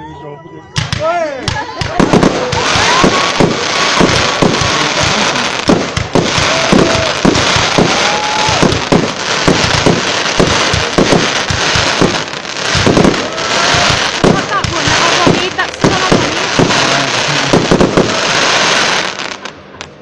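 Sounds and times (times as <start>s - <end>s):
fireworks bangs: 0.8s - 20.0s
fireworks whistles: 0.8s - 20.0s
crackling hiss: 1.9s - 20.0s.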